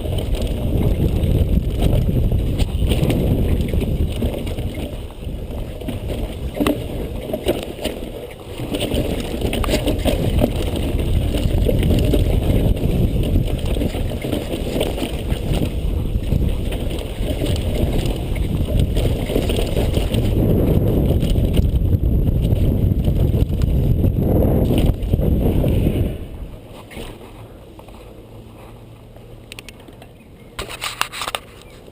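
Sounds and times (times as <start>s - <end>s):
bike clicks and rattles: 0.0s - 25.9s, 26.6s - 31.9s
wind rushing over microphone: 0.0s - 27.5s.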